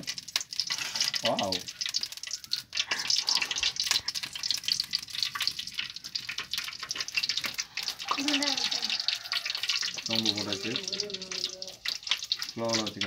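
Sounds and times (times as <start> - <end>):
hot oil crackling and spitting: 0.0 - 13.0.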